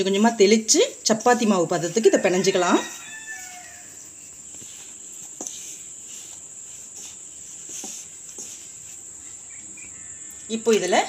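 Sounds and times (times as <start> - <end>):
hand rubbing flour in bowl: 0.0 - 11.0.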